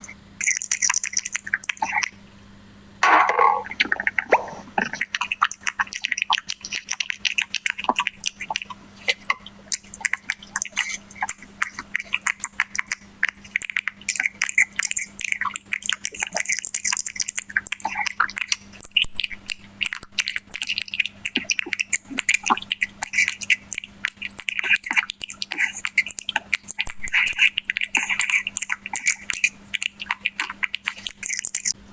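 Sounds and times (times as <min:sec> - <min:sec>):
cat chewing and licking: 0:00.0 - 0:02.2, 0:03.7 - 0:31.8
faint steady hum: 0:00.0 - 0:31.9.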